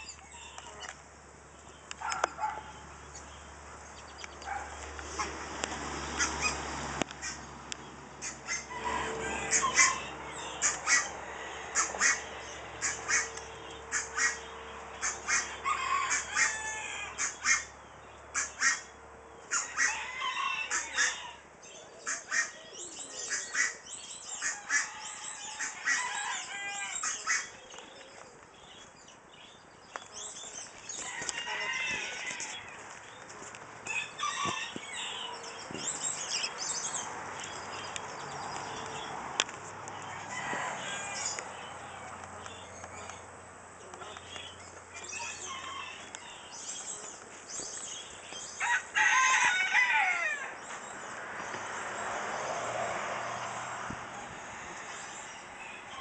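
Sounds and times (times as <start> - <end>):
chickens and fowl calling: 0.0 - 5.5, 6.1 - 7.5, 8.2 - 29.2, 30.0 - 38.0, 39.8 - 51.8, 53.1 - 56.0.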